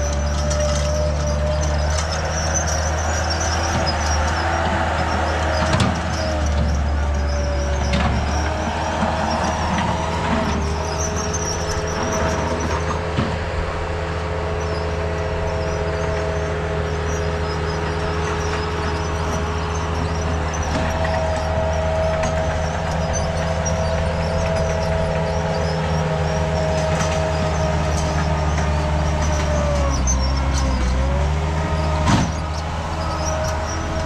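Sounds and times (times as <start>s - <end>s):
earthmoving machine engine running: 0.0s - 34.0s.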